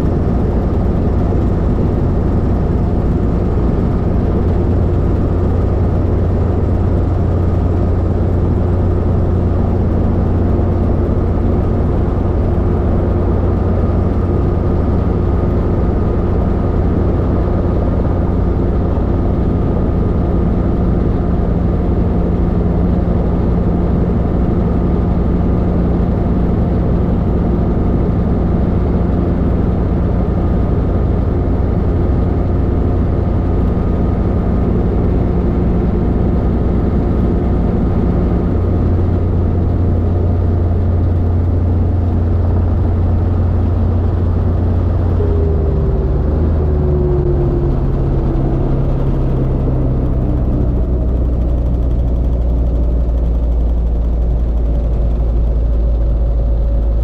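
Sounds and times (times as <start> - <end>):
helicopter engine and rotors droning: 0.0 - 57.0.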